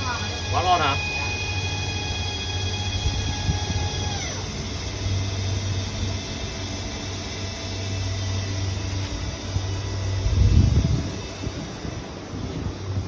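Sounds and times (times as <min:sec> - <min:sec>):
machine hum: 0:00.0 - 0:13.0
milling machine spindle whining: 0:00.0 - 0:13.0.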